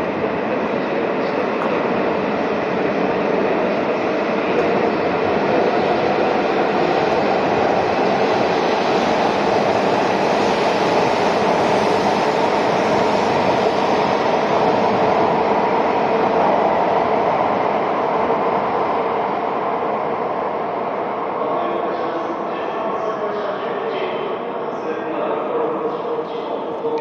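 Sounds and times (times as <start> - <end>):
high-speed train rushing: 0.0 - 27.0.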